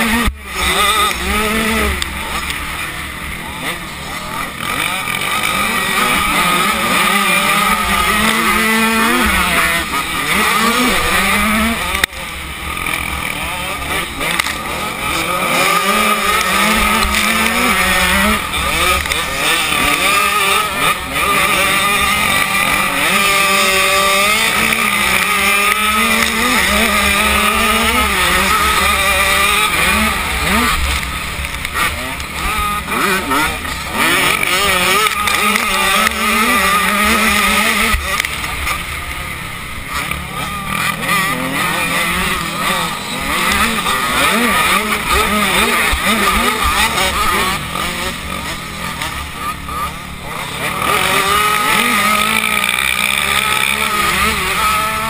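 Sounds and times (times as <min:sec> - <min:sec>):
dirt bike engine revving: 0:00.0 - 0:55.0
other dirt bikes: 0:00.0 - 0:55.0.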